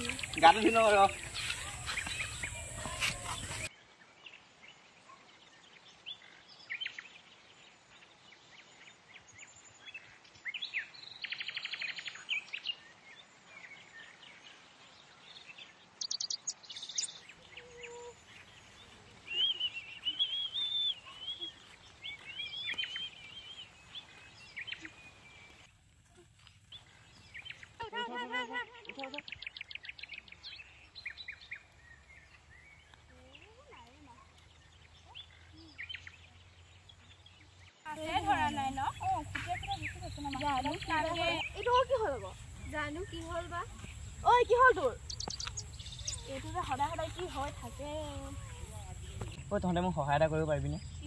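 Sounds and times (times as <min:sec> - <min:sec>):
birds chirping: 0:00.0 - 0:03.7, 0:05.6 - 0:51.0
warbling bird song: 0:00.0 - 0:04.6, 0:07.9 - 0:25.7, 0:26.6 - 0:51.0.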